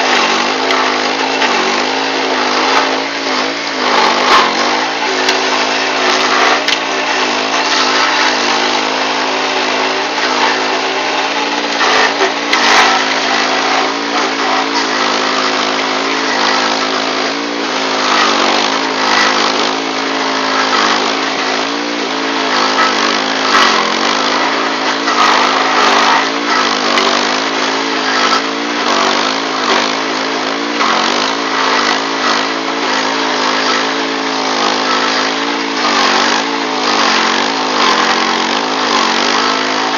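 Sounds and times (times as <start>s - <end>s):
grinding hiss and knocks: 0.0s - 39.9s
stump grinder engine running: 0.0s - 39.9s.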